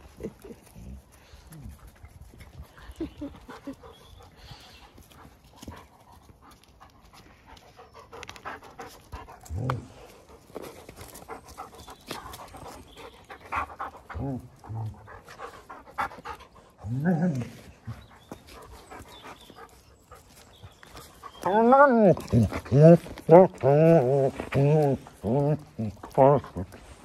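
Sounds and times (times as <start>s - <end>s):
dogs low vocal sounds: 0.0s - 27.0s
dogs panting: 0.0s - 27.0s.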